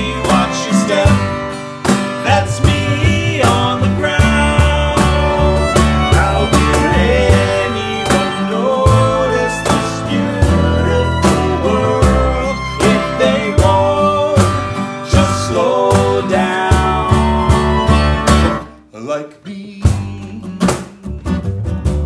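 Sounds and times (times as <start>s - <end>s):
fiddle bowed: 0.0s - 1.6s, 2.5s - 18.7s
upright bass plucked: 0.0s - 18.8s, 19.8s - 22.0s
acoustic guitar strummed: 0.0s - 18.9s, 19.8s - 22.0s
men singing: 0.0s - 21.0s.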